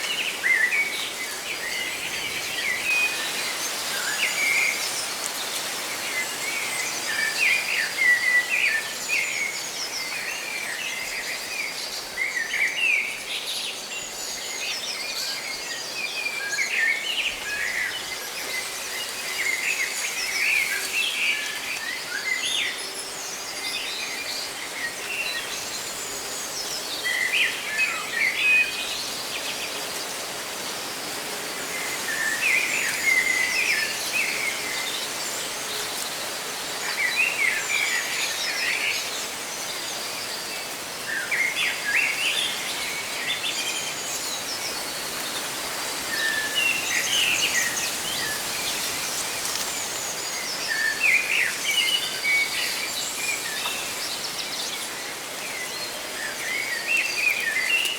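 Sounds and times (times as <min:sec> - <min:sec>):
leaves rustling in wind: 0:00.0 - 0:57.9
songbirds chirping: 0:00.0 - 0:57.9.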